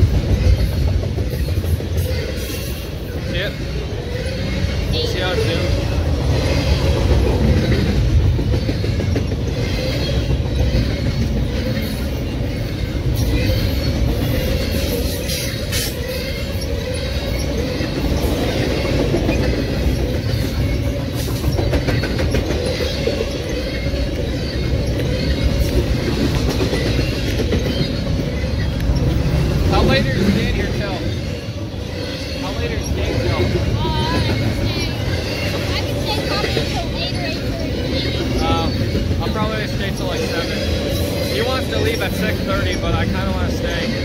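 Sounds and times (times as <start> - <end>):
high wheel squeal: 0.0 - 44.0
train wheels rumbling on rail: 0.0 - 44.0.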